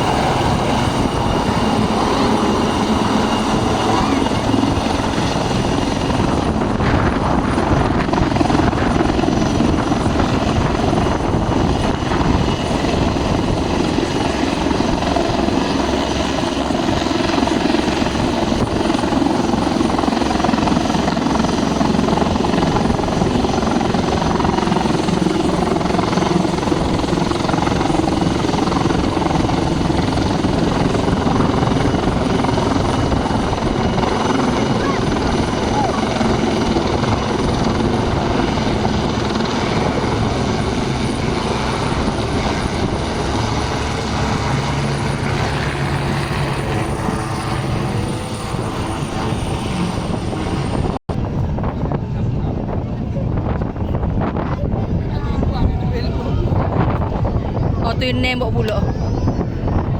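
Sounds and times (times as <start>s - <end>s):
helicopter rotor beating: 0.0s - 59.9s.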